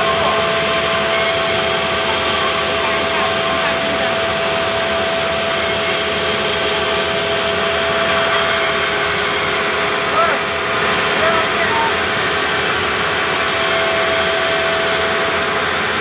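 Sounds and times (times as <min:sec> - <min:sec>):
band saw whining through wood: 0:00.0 - 0:16.0.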